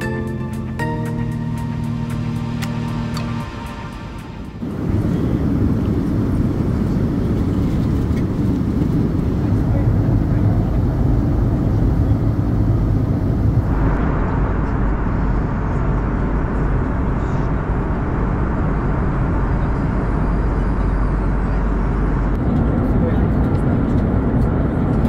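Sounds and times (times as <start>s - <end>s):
airplane cabin roar: 0.0s - 25.0s.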